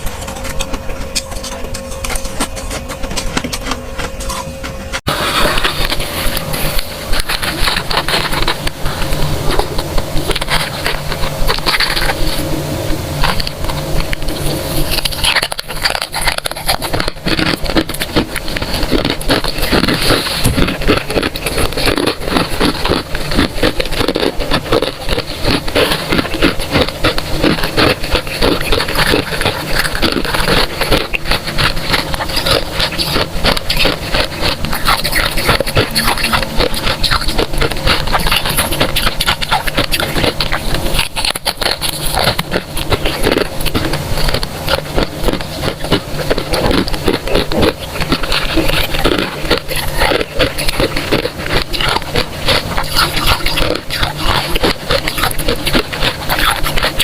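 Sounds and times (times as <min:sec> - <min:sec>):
frost crunching being chewed: 0:00.0 - 0:57.0.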